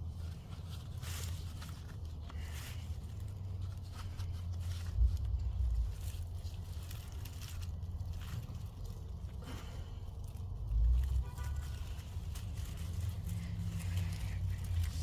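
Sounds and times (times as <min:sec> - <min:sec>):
hands rustling vines and soil: 0:00.0 - 0:15.0
steady low rumble: 0:00.0 - 0:15.0.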